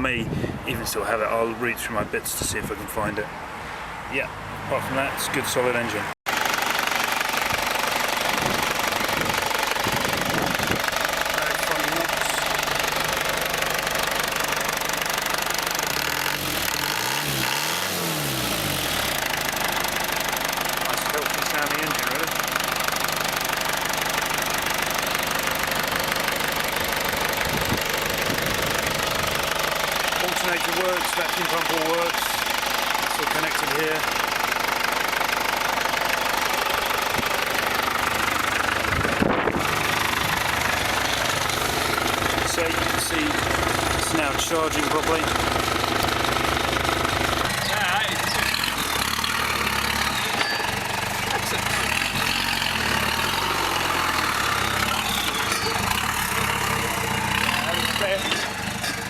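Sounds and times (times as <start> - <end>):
diesel engine idling: 4.5 - 59.0.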